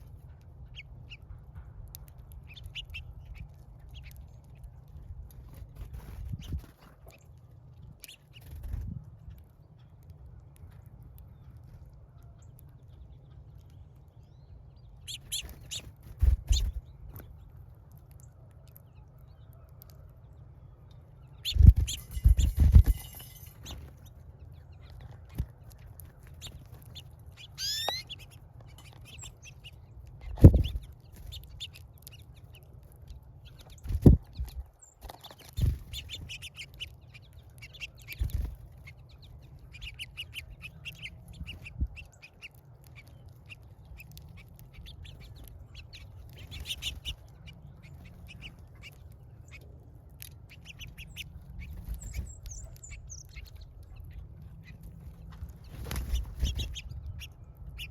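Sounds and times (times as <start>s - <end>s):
birds chirping: 0.0s - 57.9s.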